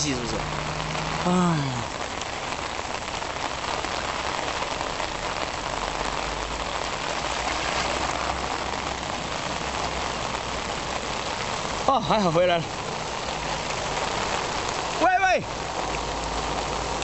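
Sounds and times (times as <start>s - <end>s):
rain falling on water: 0.0s - 17.0s.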